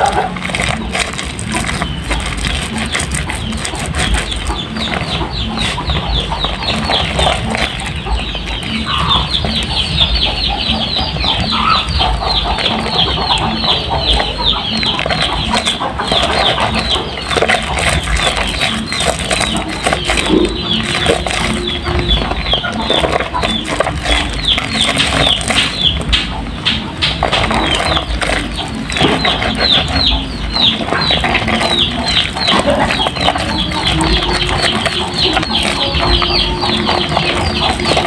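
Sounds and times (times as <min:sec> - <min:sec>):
wet soap squelching: 0:00.0 - 0:38.0.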